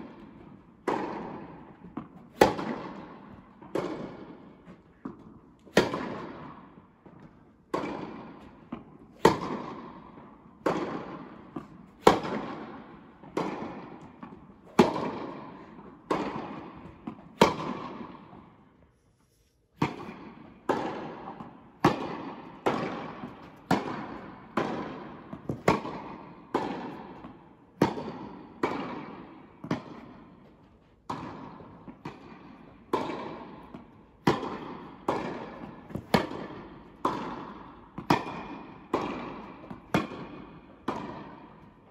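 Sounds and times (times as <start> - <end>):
tennis ball bouncing on court: 0.0 - 18.8, 19.8 - 41.9
tennis ball hit with rackets: 0.0 - 18.8, 19.8 - 41.9.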